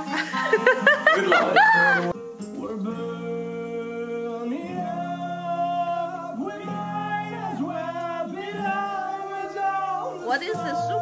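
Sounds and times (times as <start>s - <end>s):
person singing long sliding notes: 0.0s - 11.0s.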